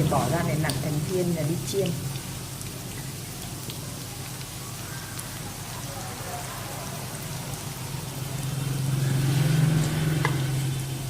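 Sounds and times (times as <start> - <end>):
oil sizzling and popping: 0.0 - 11.0.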